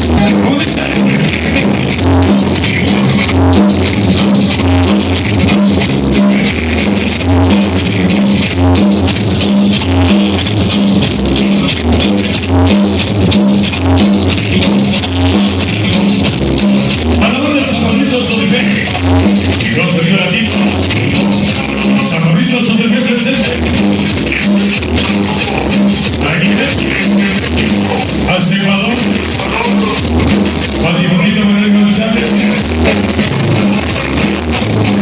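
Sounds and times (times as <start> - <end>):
loud dance music: 0.0 - 35.0.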